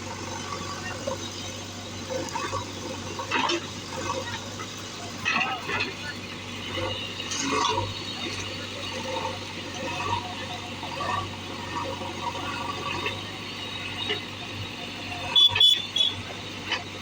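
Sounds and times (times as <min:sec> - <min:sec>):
diesel engine running: 0:00.0 - 0:17.0
faint voices: 0:00.0 - 0:17.0.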